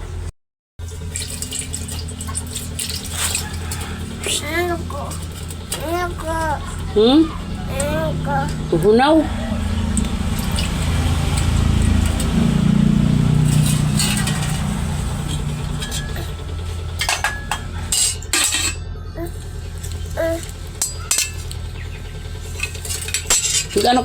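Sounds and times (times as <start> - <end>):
steady low hum: 0.0 - 24.0
metal utensils clinking: 0.9 - 8.6, 9.9 - 18.8, 19.8 - 21.7, 22.4 - 24.0.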